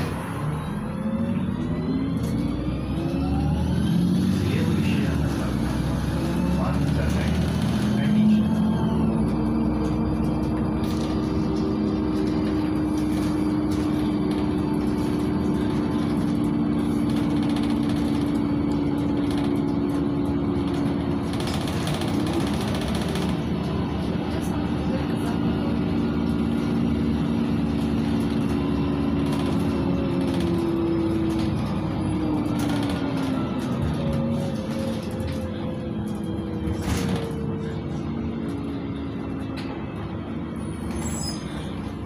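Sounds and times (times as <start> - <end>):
bus engine drone with whine: 0.0 - 42.0
road noise: 0.0 - 42.0.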